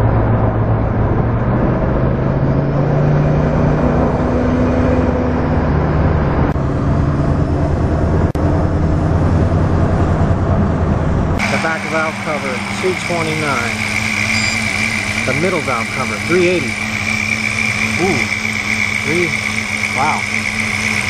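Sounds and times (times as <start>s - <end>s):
car engine droning: 0.0s - 21.0s
road noise: 0.0s - 21.0s.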